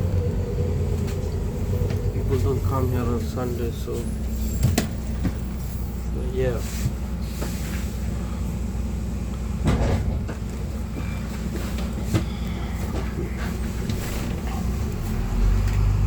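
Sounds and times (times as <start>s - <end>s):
bus engine rumbling: 0.0s - 16.0s.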